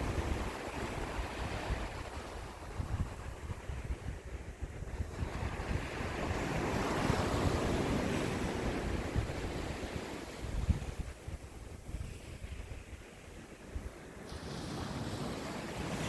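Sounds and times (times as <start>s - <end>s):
sea waves surging and washing back: 0.0s - 16.0s
wind rumble on microphone: 0.0s - 16.0s.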